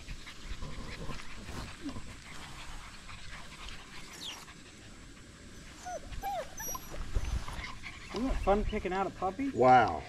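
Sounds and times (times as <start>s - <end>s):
puppies whimpering: 0.0s - 10.0s.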